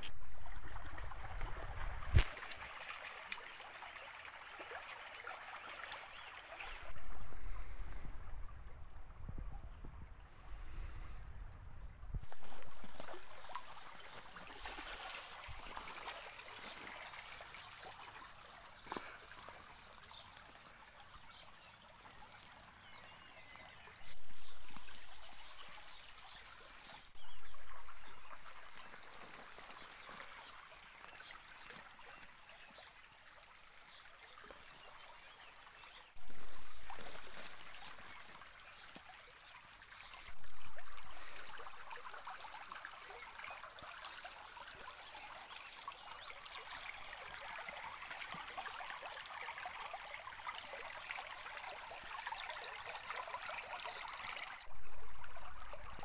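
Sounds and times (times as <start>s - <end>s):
stream trickling over rocks: 0.0s - 11.2s, 12.1s - 56.0s.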